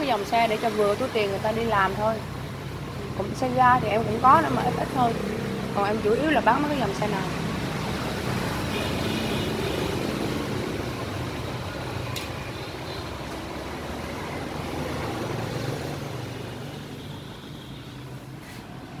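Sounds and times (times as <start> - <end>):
motorbike engines rumbling: 0.0 - 19.0.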